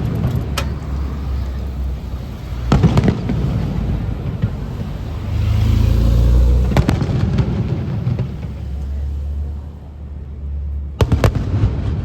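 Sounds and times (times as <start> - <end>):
deep rolling boom: 0.0 - 9.7
fireworks bangs: 0.0 - 12.0.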